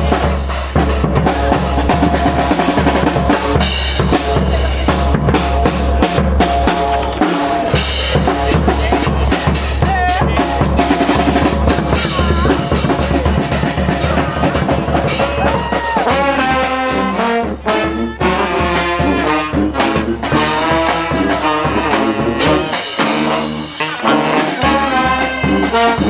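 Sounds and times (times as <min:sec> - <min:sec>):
brass band playing: 0:00.0 - 0:26.0
horn note bending: 0:01.1 - 0:26.0.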